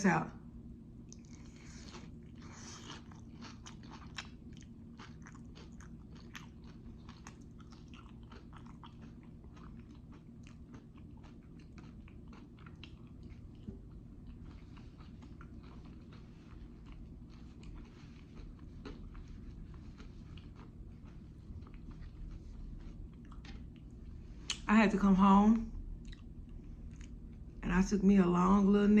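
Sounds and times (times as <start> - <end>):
person chewing crunchy food: 1.0 - 24.6, 26.0 - 27.5.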